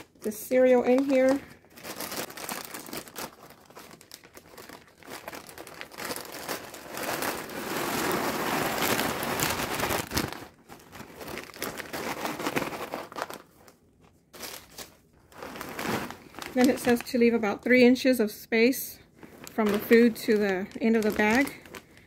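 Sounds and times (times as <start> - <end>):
plastic bags crinkling: 0.0 - 18.2, 18.9 - 22.0.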